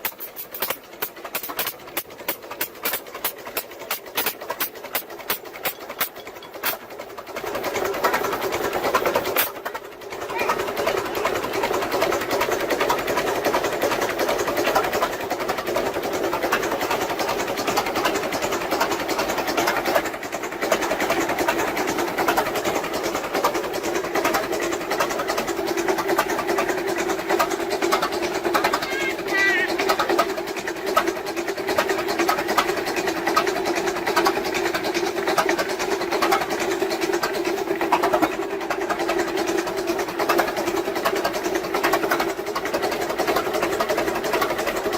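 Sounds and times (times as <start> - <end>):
machine clattering: 0.0 - 44.9.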